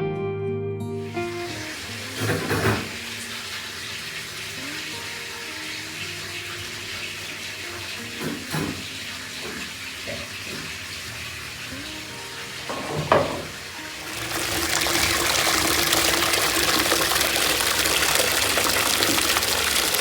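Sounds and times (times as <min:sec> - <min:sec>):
tap water running: 0:01.2 - 0:20.0.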